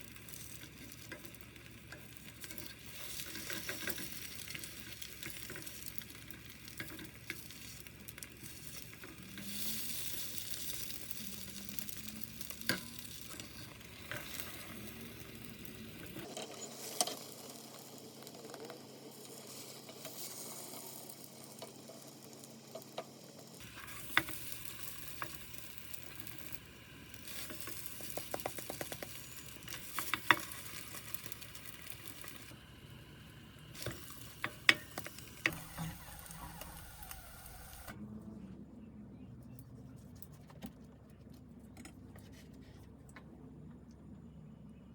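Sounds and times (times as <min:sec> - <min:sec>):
food sizzling in a pan: 0:00.0 - 0:37.9.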